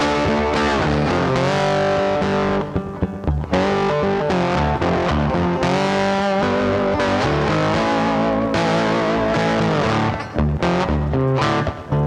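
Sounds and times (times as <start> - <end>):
distorted electric guitar music: 0.0 - 12.0.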